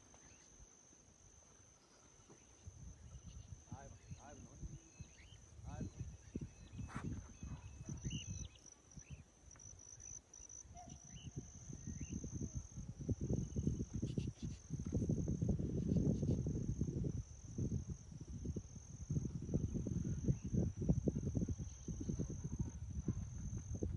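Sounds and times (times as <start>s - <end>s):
insect chorus: 0.0s - 23.9s.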